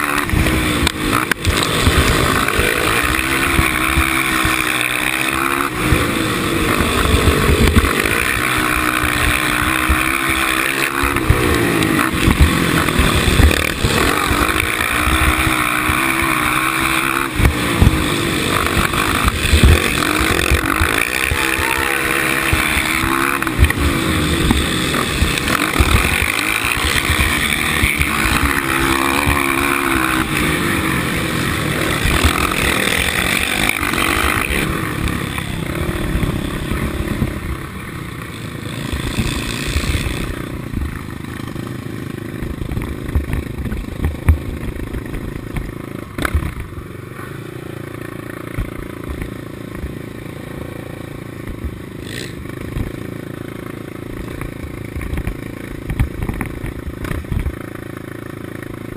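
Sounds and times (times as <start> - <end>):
quad engine revving: 0.0 - 58.9.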